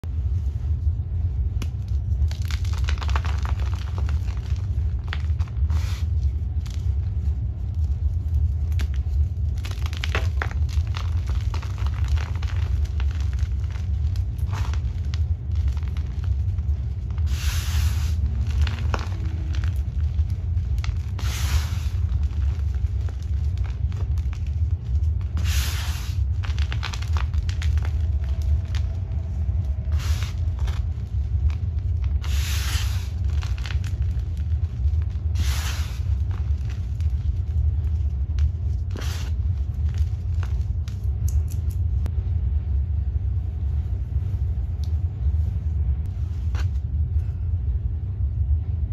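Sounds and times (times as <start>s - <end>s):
low rumble: 0.0s - 48.9s
chalk crunching and crumbling: 1.5s - 41.8s.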